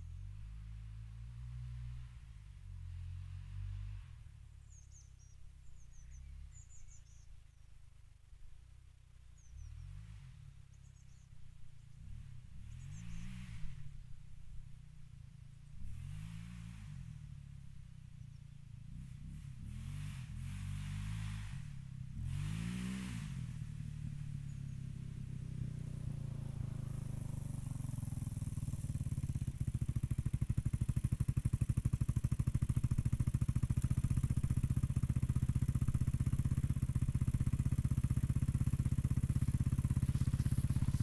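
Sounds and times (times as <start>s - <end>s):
off-road vehicle engine running: 0.0s - 41.0s.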